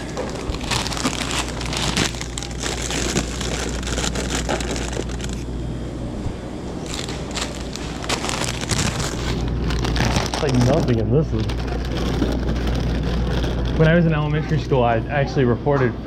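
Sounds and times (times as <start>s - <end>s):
plastic bags crinkling: 0.0s - 5.5s, 6.8s - 14.2s
steady low hum: 0.0s - 16.0s.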